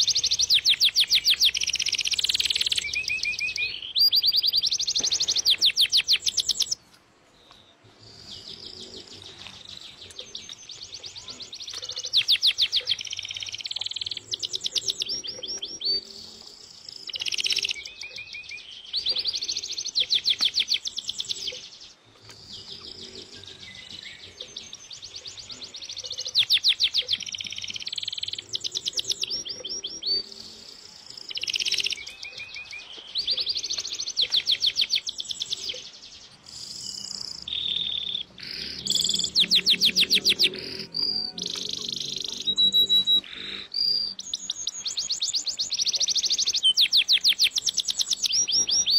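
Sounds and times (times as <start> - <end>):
birds chirping and trilling: 0.0 - 48.9.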